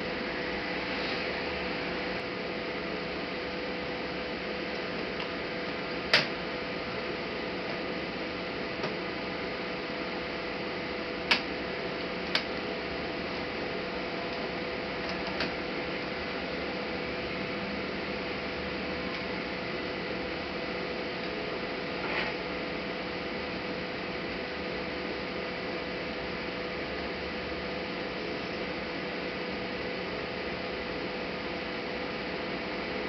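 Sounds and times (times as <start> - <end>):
background hiss and hum: 0.0 - 33.0.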